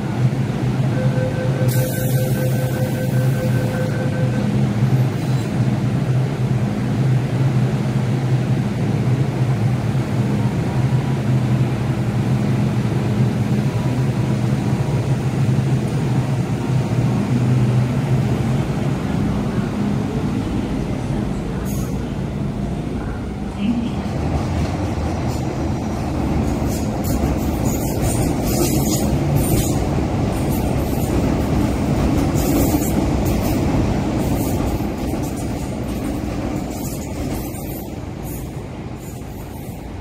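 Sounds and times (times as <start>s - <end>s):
electric train hum and rolling: 0.0s - 40.0s.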